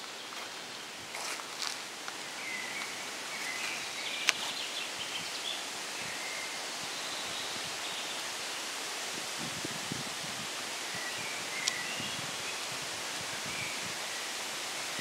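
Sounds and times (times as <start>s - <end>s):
rustling leaves: 0.0s - 15.0s
steady outdoor hiss: 0.0s - 15.0s.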